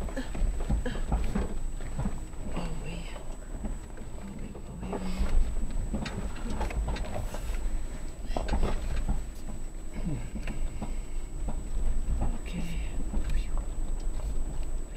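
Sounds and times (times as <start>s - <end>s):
faint high-pitched whine: 0.0s - 14.9s
knocks and rattles: 0.0s - 14.9s
vehicle rumbling over rocks: 0.0s - 14.9s.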